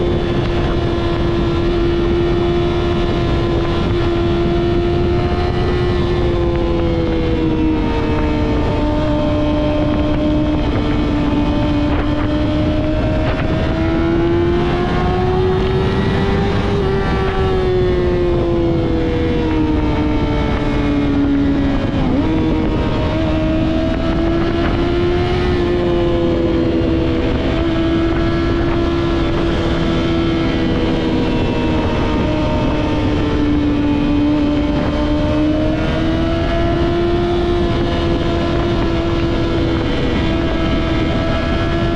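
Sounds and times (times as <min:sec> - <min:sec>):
motorcycle engine at high revs: 0:00.0 - 0:41.9.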